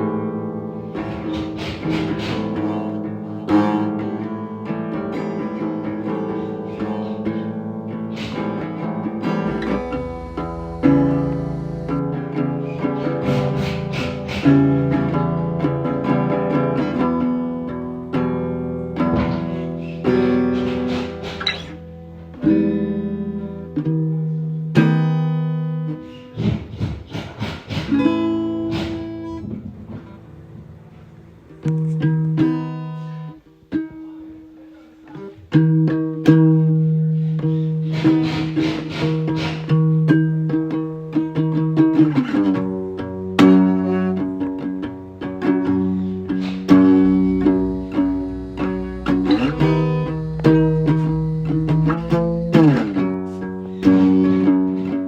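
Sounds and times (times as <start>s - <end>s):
acoustic guitar strumming: 0.0s - 26.3s, 27.7s - 34.2s, 35.2s - 55.0s.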